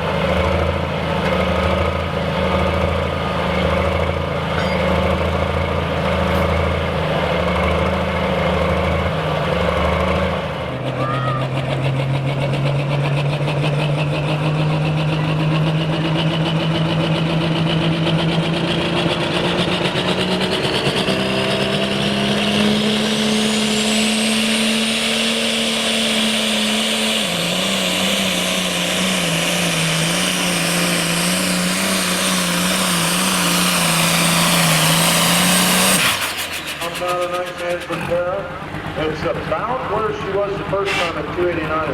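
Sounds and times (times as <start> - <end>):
tractor engine running hard: 0.0 - 41.9.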